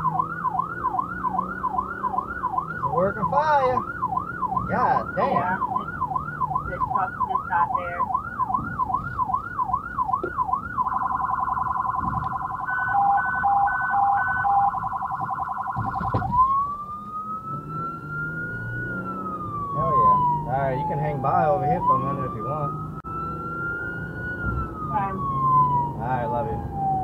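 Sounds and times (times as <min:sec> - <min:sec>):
fire vehicle siren: 0:00.0 - 0:27.0.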